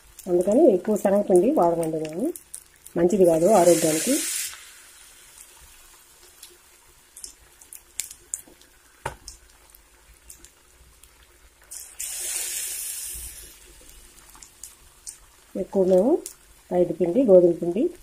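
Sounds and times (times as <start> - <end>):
oil sizzling with pops: 0.0 - 18.0.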